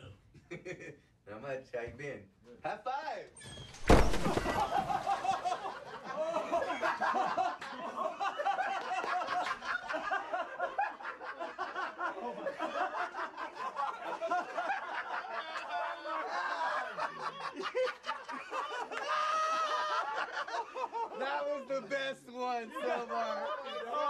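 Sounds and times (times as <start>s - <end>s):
men laughing: 0.4s - 1.1s, 4.1s - 21.9s, 22.5s - 24.0s.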